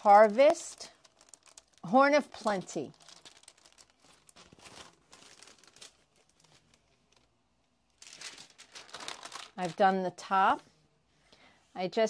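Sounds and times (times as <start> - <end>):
plastic film crinkling: 0.0 - 10.0.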